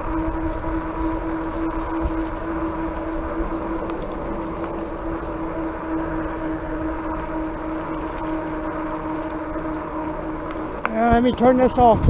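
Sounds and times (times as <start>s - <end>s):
electric hub motor whine: 0.0s - 12.0s
tyre road noise: 0.0s - 12.0s
wind: 0.0s - 12.0s.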